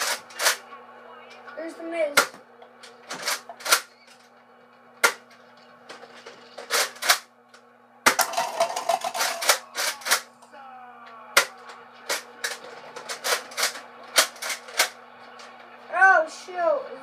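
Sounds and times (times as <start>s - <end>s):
television music: 0.0s - 17.0s.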